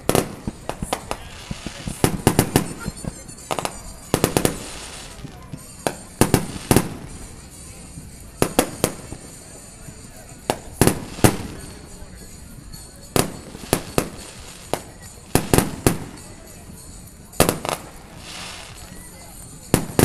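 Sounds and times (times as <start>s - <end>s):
fireworks bursting with bangs and crackles: 0.0s - 20.0s.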